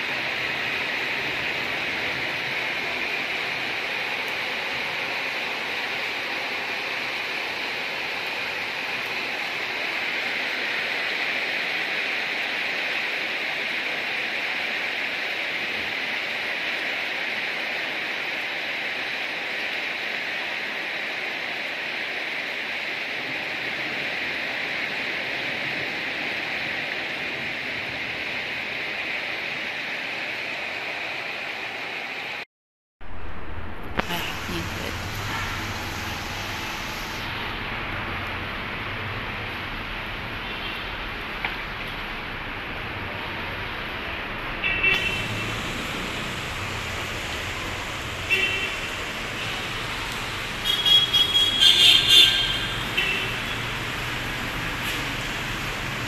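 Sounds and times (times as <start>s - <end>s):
heavy rain pouring: 0.0s - 32.4s, 33.0s - 56.0s.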